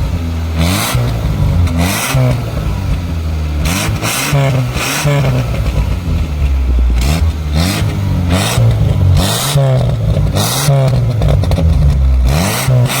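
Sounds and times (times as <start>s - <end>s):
car engine revving: 0.0s - 13.0s
exhaust popping: 0.0s - 13.0s.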